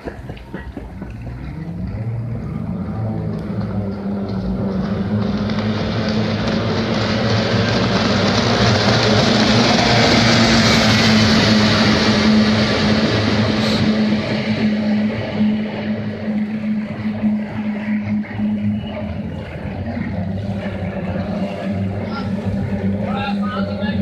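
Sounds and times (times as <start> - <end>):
racing boat motors droning: 0.0 - 24.0.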